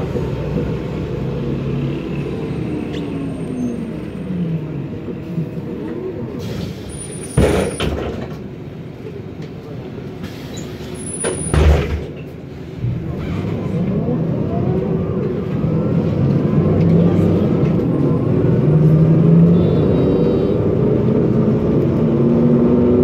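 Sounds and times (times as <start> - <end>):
bus drivetrain whine: 0.0 - 23.0.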